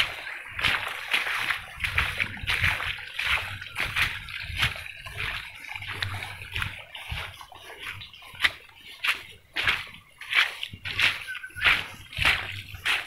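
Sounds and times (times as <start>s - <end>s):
footsteps splashing through water: 0.0s - 13.0s.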